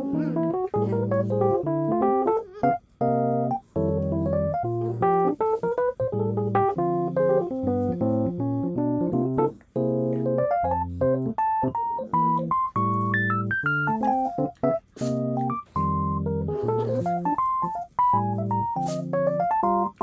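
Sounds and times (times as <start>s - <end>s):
piano tune: 0.0s - 20.0s.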